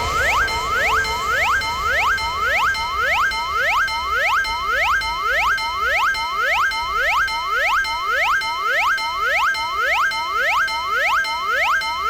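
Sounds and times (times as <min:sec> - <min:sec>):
steady high ringing tone: 0:00.0 - 0:12.0.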